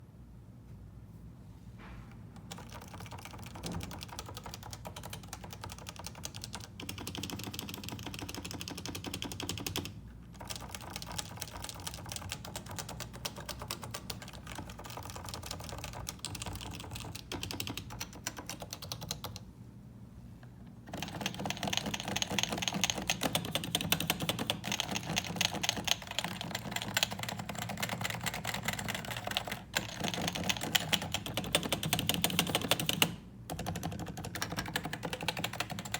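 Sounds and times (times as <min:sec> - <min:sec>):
fast keyboard typing: 0:02.4 - 0:19.4, 0:20.9 - 0:35.9.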